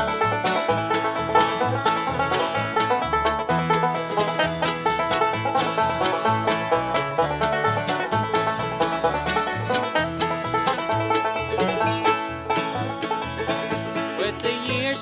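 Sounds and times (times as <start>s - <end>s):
moving bass line: 0.0s - 15.0s
quick picked string notes: 0.0s - 15.0s.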